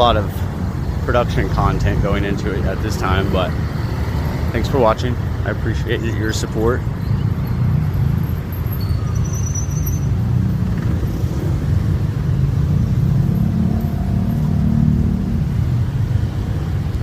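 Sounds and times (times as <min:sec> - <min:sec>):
cars going by: 0:00.0 - 0:17.0.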